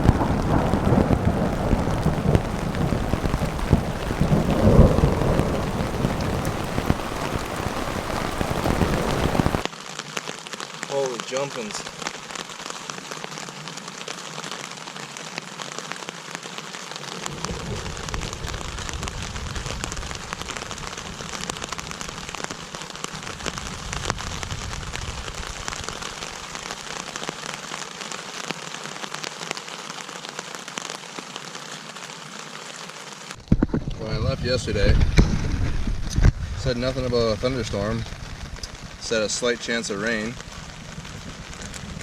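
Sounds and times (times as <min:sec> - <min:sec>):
heavy rain falling: 0:00.0 - 0:42.0.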